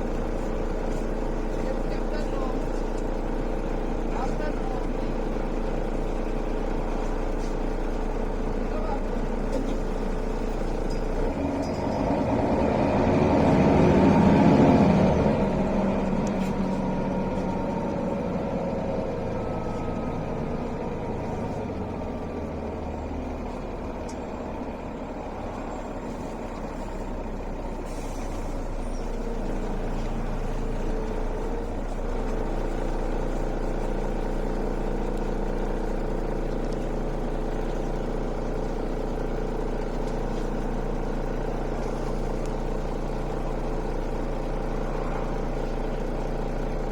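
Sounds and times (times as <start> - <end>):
bus diesel engine running: 0.0 - 46.9
road and drivetrain noise: 0.0 - 46.9.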